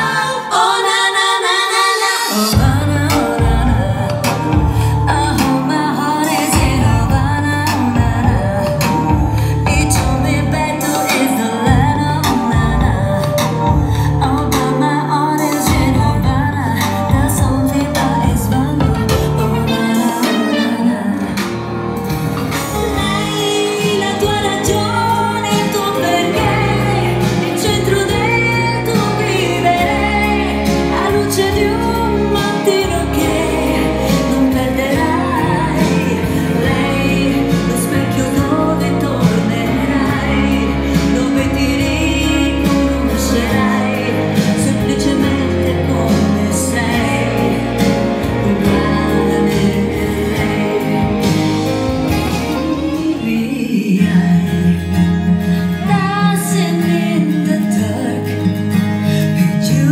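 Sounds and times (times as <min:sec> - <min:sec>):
woman singing into microphone: 0:00.0 - 0:21.8, 0:22.6 - 0:59.9
keyboard with bass notes: 0:02.5 - 0:59.9.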